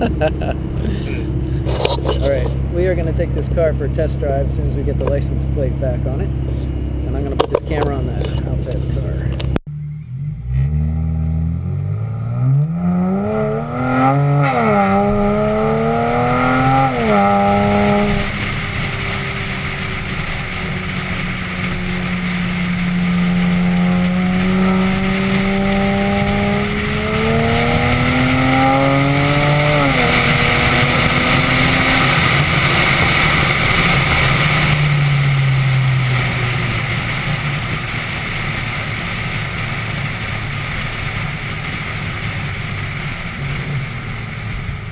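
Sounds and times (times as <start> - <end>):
car engine accelerating: 0.0 - 44.9
wind and road noise: 0.0 - 44.9.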